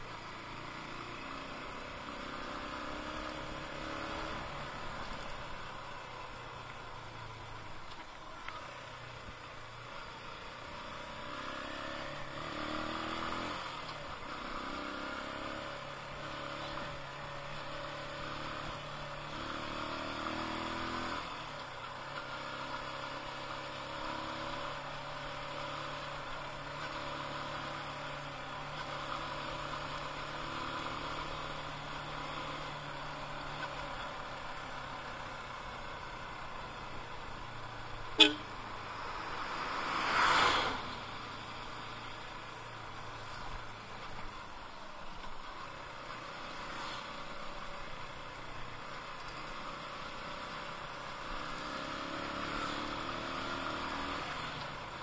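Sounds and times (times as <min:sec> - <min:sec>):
road noise: 0:00.0 - 0:55.0
small motorcycle engine running: 0:00.0 - 0:55.0.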